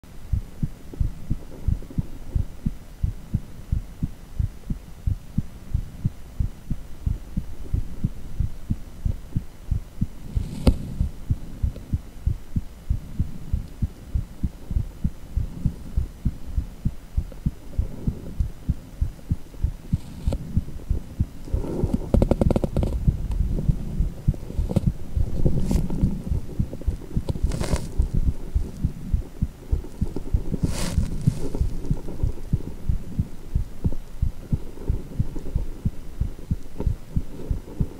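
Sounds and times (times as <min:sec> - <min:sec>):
heartbeat throbbing: 0:00.1 - 0:37.9.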